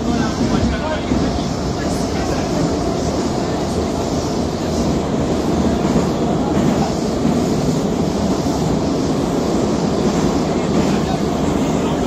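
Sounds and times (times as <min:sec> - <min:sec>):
metro train wheels rumbling: 0:00.0 - 0:12.0.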